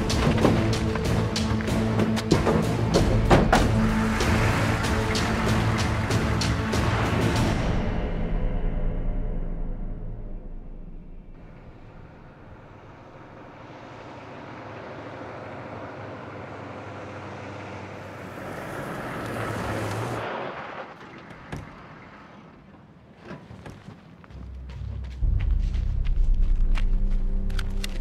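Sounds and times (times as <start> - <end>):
pickup truck driving on dirt road: 0.0 - 7.7, 11.3 - 28.0.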